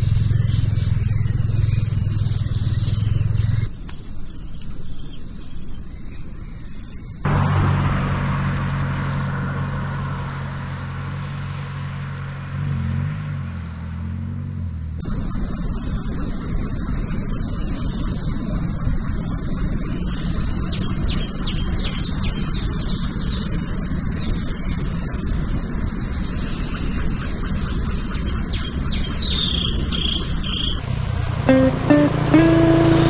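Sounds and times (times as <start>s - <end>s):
birds chirping: 0.0s - 7.5s, 8.1s - 30.8s
insects droning: 0.0s - 30.8s.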